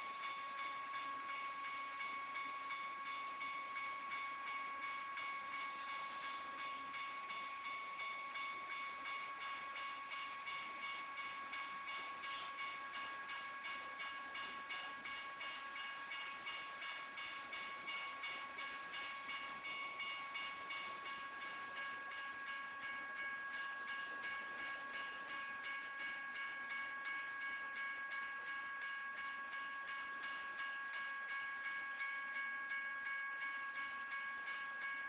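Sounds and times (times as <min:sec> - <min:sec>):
crossing bells dinging: 0:00.0 - 0:35.0.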